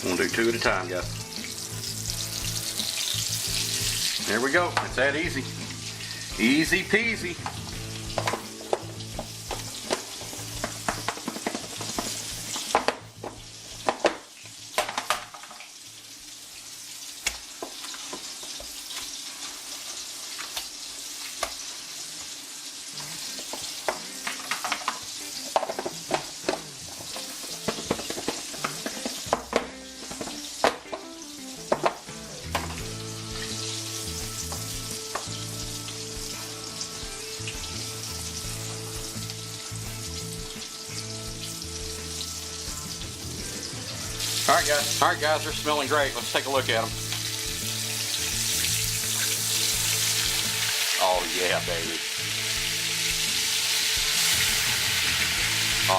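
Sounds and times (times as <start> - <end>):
food deep-frying in hot oil: 0.0 - 55.9.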